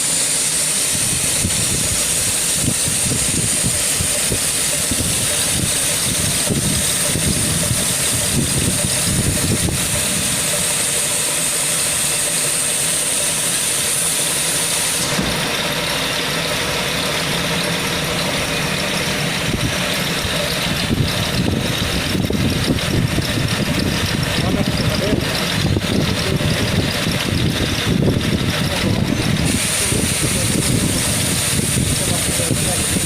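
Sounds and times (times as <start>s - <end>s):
low machine rumble: 0.0s - 33.0s
router high whine: 0.0s - 33.0s.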